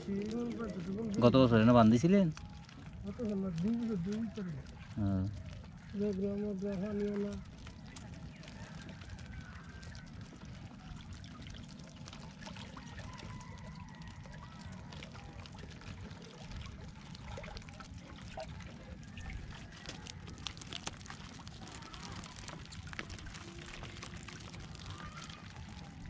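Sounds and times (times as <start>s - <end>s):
small splashes: 0.0s - 26.0s
water pouring off a fishing net: 0.0s - 26.0s.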